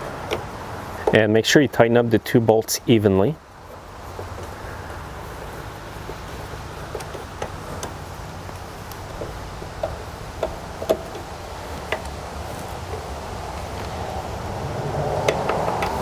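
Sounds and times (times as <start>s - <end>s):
light clicks and taps of parts: 0.1s - 1.3s, 3.7s - 14.6s, 15.2s - 16.0s.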